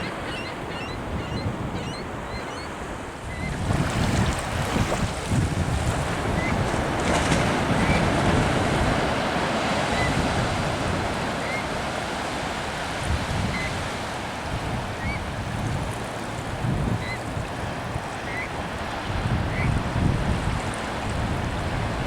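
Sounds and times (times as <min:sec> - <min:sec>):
wind on microphone: 0:00.0 - 0:22.0
surf breaking on beach: 0:03.6 - 0:22.0.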